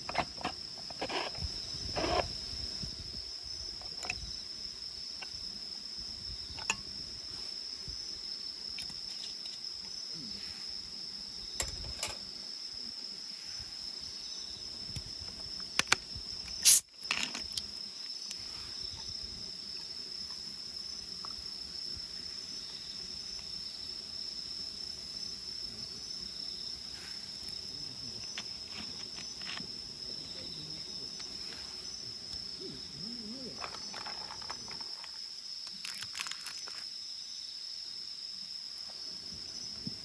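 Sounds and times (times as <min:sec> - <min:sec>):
night insects chirping: 0:00.0 - 0:40.0.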